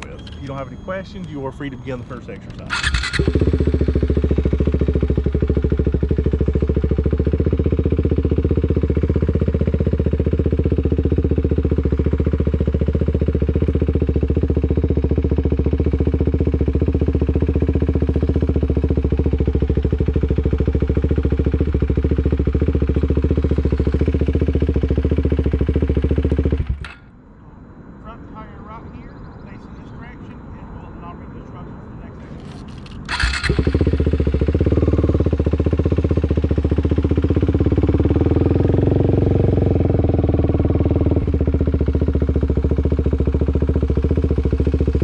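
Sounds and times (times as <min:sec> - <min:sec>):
motorcycle engine running: 0:00.0 - 0:27.1, 0:32.4 - 0:45.0.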